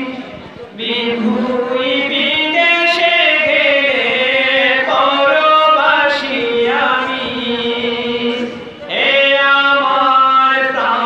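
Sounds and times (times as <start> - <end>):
man singing into microphone: 0.0 - 11.0.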